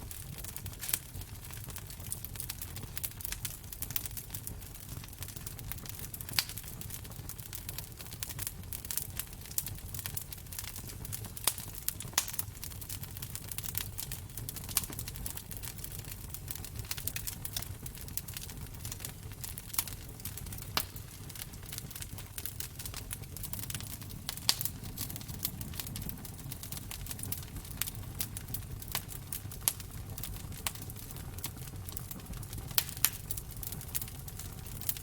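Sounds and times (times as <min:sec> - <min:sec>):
sharp pops of fire: 0:00.0 - 0:35.0
wood fire crackling: 0:00.0 - 0:35.0.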